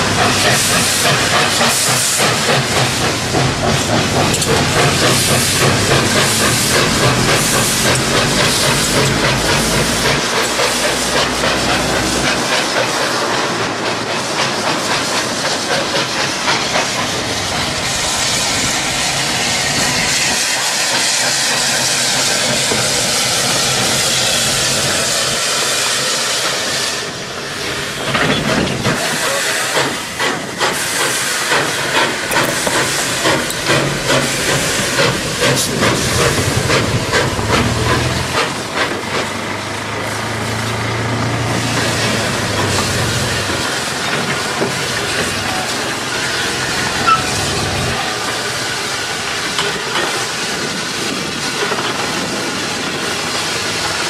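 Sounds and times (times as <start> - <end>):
locomotive exhaust chuffs: 0.0 - 54.0
steam locomotive hissing: 0.0 - 54.0.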